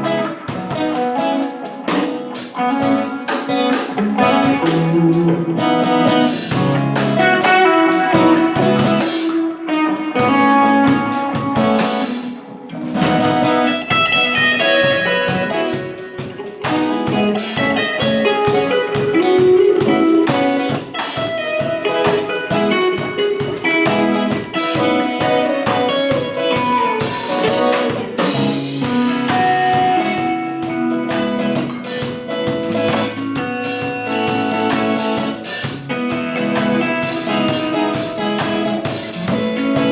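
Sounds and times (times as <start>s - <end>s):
electric guitar notes and chords: 0.0s - 39.9s.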